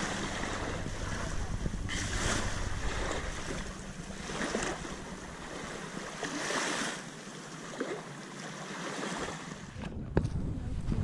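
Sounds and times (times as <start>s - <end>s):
wind rumbling on microphone: 0.0s - 7.2s, 9.3s - 11.0s
small waves lapping: 0.0s - 9.9s.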